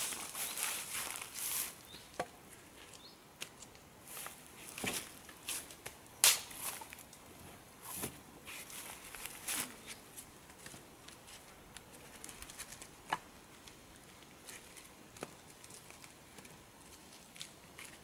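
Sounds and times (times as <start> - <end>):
twigs rustling: 0.0 - 18.0.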